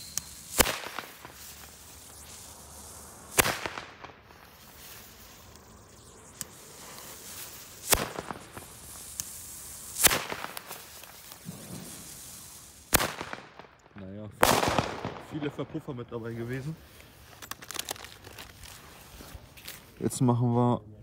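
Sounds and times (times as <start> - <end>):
firecrackers banging: 0.0 - 18.4.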